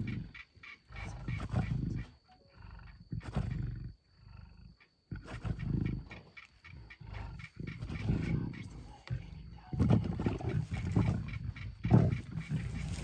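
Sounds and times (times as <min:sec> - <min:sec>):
lions growling deeply: 0:00.0 - 0:06.3, 0:06.9 - 0:13.0.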